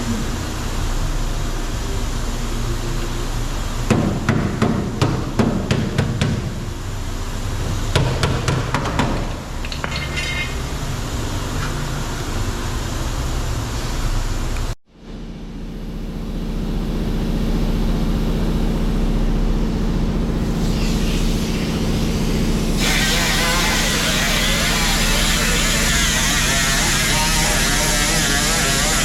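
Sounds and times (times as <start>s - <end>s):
low mechanical hum: 0.0s - 29.0s
steady background noise: 0.0s - 29.0s.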